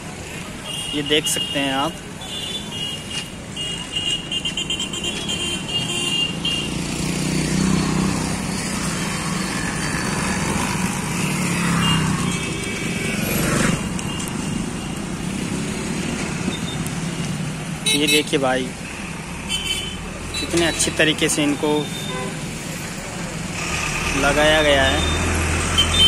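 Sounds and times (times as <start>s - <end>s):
street traffic: 0.0s - 26.0s
motorcycle engines passing: 2.1s - 26.0s.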